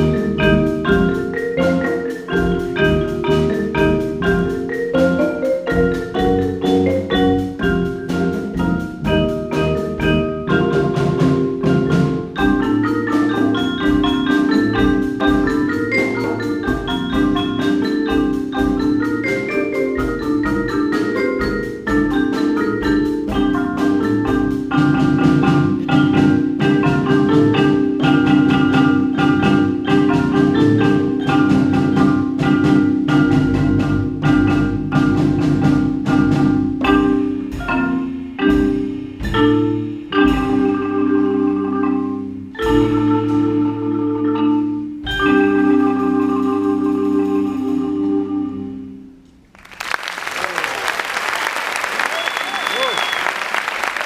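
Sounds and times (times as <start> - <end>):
solo marimba: 0.0 - 49.2.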